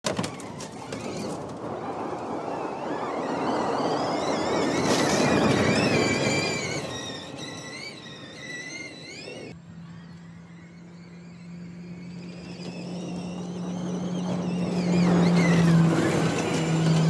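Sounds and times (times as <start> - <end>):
tyre and ground noise: 0.0 - 10.3, 10.9 - 17.0
electric car whine and hum: 0.1 - 17.0.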